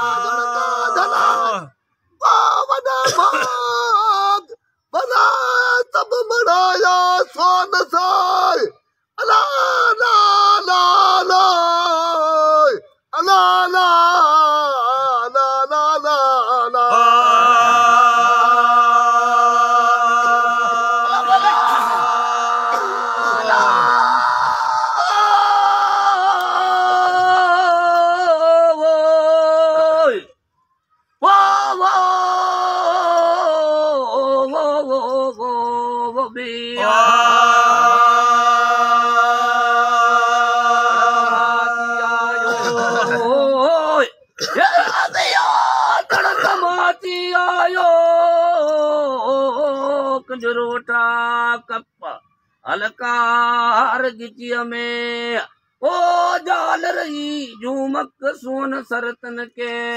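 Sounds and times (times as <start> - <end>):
man singing unaccompanied: 0.0 - 30.4, 31.1 - 59.9.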